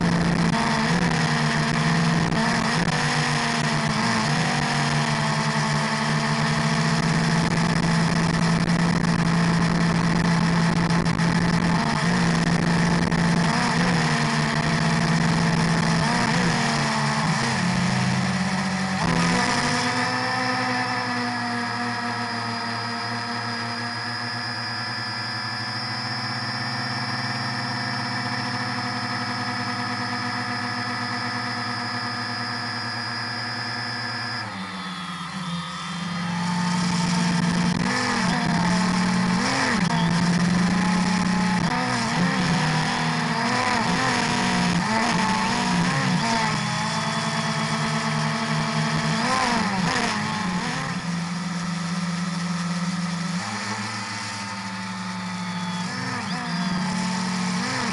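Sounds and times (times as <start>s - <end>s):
drone propellers whining: 0.0s - 57.9s.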